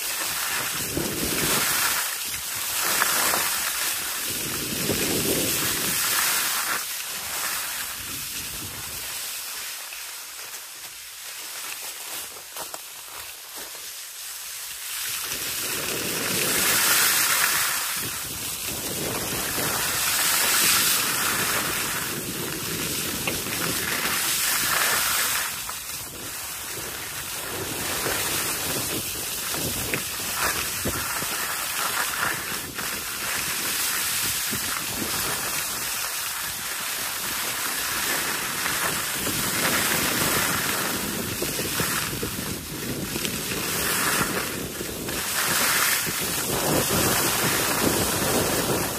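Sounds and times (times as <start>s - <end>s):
wind rushing over microphone: 0.0s - 9.3s, 15.0s - 48.9s
skis sliding on snow: 0.0s - 48.9s.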